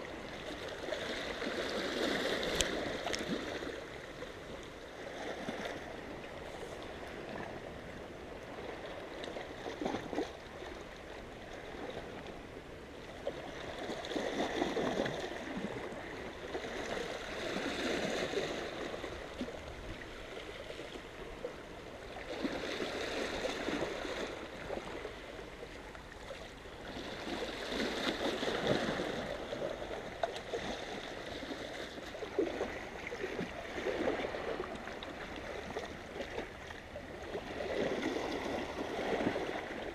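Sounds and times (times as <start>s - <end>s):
sea waves washing against rocks: 0.0s - 10.8s, 13.2s - 39.9s.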